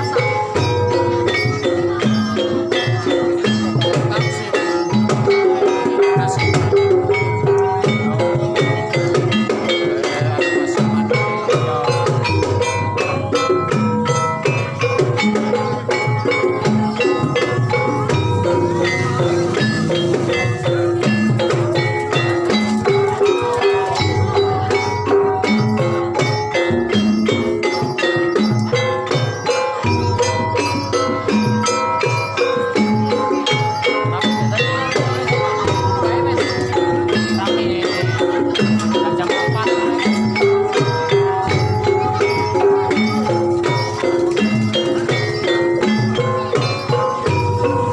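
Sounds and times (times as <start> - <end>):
gamelan ensemble playing: 0.0 - 47.9
hand drums: 0.0 - 47.9
struck keyed percussion: 0.0 - 47.9.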